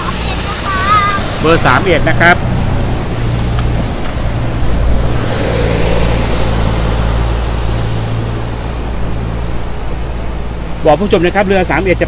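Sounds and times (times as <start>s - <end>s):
boat diesel engine droning: 0.0s - 12.0s
wake churning water: 0.0s - 12.0s.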